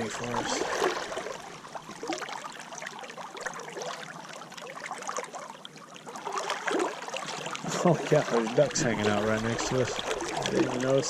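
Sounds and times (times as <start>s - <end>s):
river water babbling: 0.0s - 11.0s.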